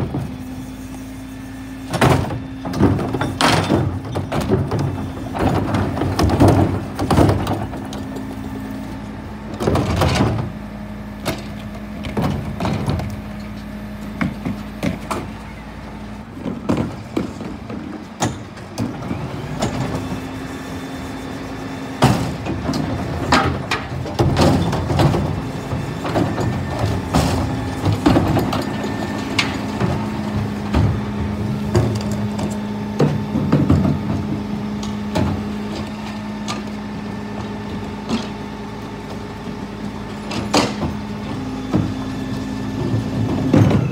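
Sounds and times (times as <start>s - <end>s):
truck engine running: 0.0s - 43.9s.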